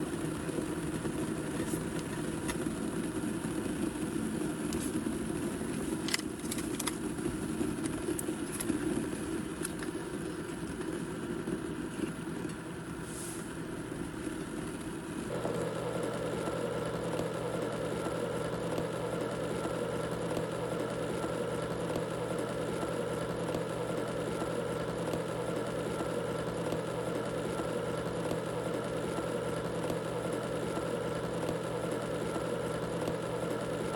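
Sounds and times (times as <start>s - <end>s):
ticks and crackles: 0.0s - 12.9s, 13.8s - 33.9s
kettle boiling: 0.0s - 33.9s.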